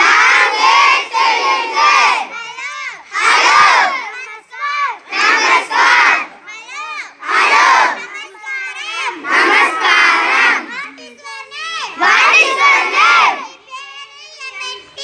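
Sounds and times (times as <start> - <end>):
children chanting in unison: 0.0 - 13.7.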